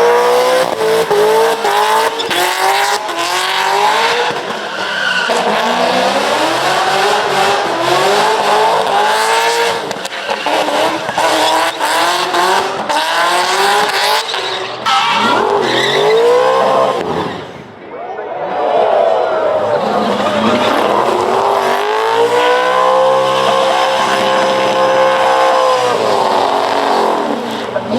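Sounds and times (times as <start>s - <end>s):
car engine revving: 0.0s - 17.7s, 19.5s - 27.9s.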